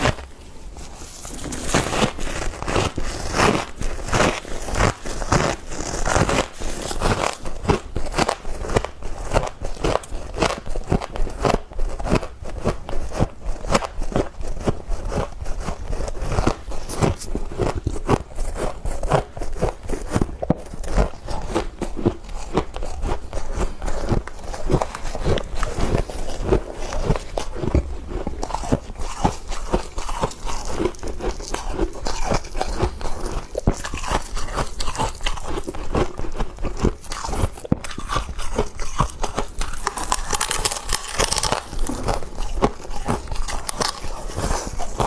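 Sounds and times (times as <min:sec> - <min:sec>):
frost being chewed with crunches: 0:00.0 - 0:45.0.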